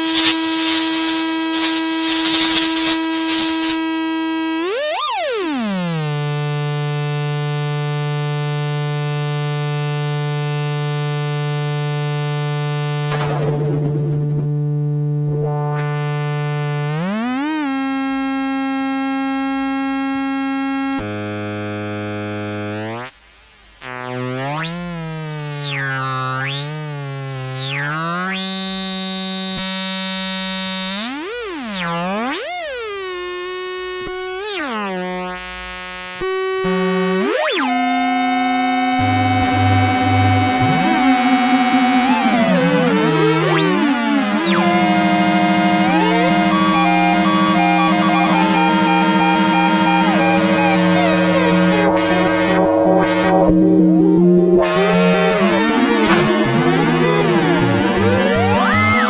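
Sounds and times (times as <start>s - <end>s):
buzzy synthesizer drone: 0.0s - 23.2s, 23.8s - 59.0s.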